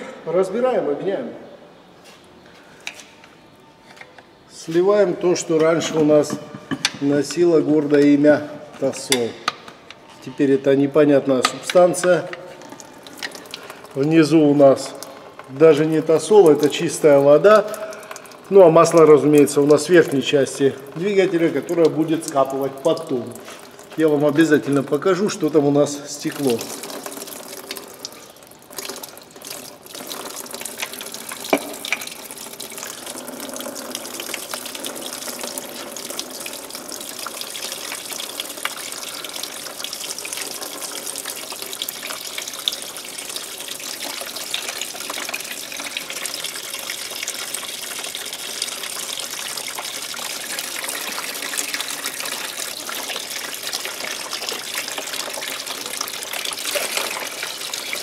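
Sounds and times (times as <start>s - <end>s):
coolant pouring and splashing: 7.2s - 58.0s.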